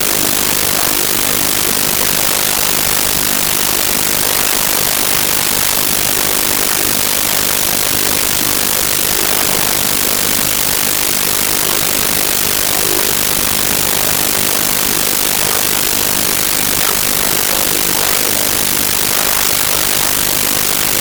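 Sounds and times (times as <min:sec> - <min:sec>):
loud static hiss: 0:00.0 - 0:21.0.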